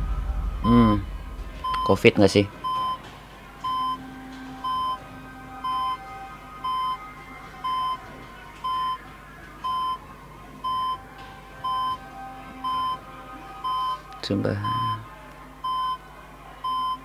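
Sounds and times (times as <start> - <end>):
faint music: 0.0 - 17.0
patient monitor beeping: 1.6 - 3.0, 3.6 - 17.0.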